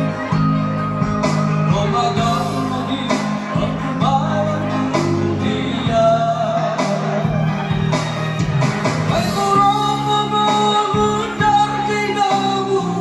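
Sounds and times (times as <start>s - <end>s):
accompanying music: 0.0s - 13.0s
man singing into a microphone: 1.4s - 7.9s, 9.0s - 13.0s.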